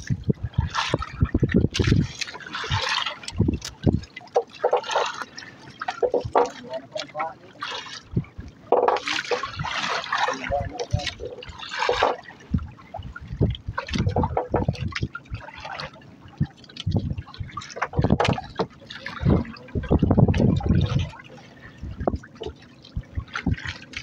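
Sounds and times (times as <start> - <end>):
waves slapping against boat hull: 0.0 - 24.0.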